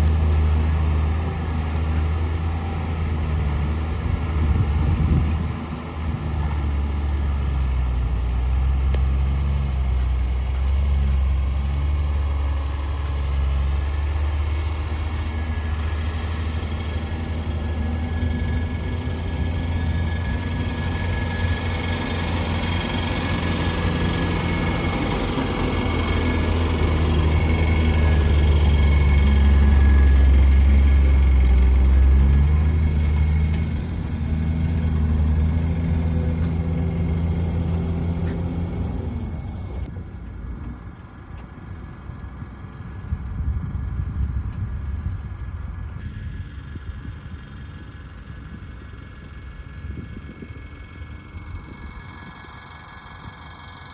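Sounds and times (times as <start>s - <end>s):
diesel engine rumbling: 0.0s - 53.9s.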